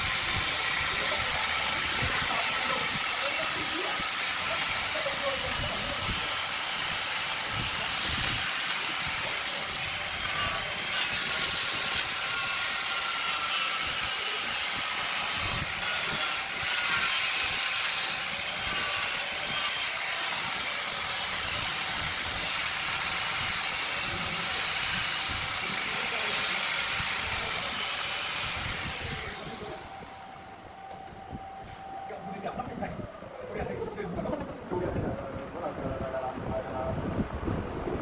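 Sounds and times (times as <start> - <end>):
wood lathe hissing: 0.0 - 33.6
faint wavering whine: 0.0 - 38.0.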